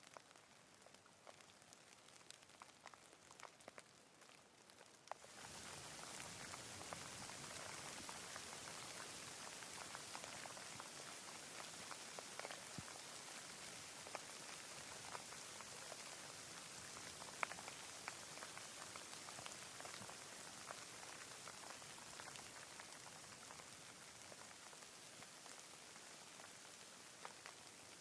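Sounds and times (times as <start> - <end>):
raindrops ticking: 0.0 - 28.0
rain hissing: 5.2 - 28.0.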